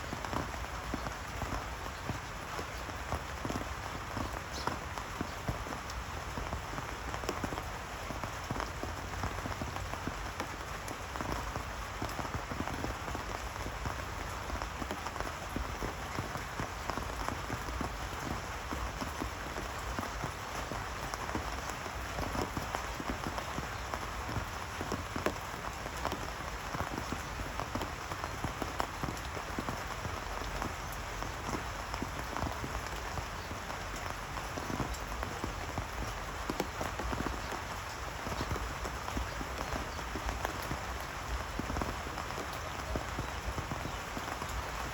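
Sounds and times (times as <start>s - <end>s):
rain falling steadily: 0.0s - 44.9s.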